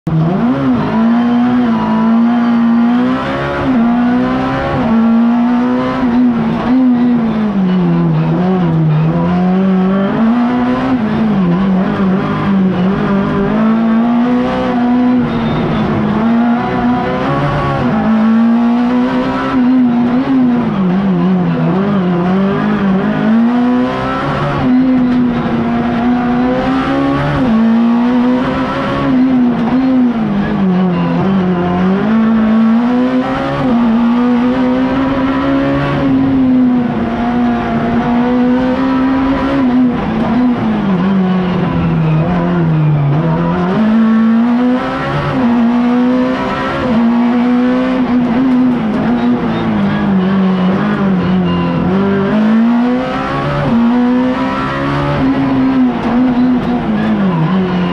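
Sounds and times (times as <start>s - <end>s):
car engine at high revs: 0.0s - 57.9s.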